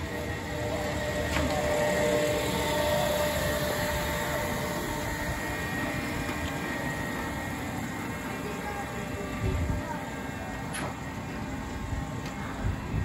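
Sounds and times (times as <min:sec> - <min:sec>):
ferris wheel machinery humming: 0:00.0 - 0:13.0.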